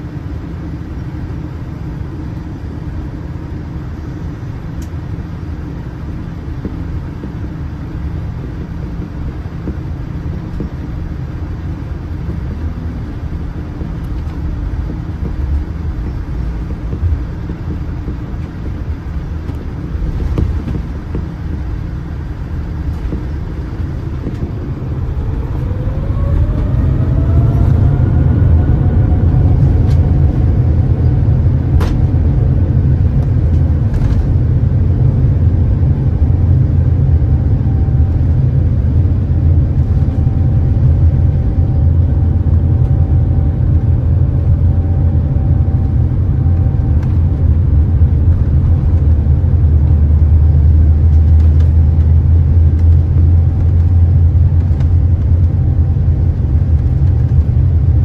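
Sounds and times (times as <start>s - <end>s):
jet engine rumble in cabin: 0.0s - 58.0s
jet engine whine spooling up: 0.0s - 58.0s.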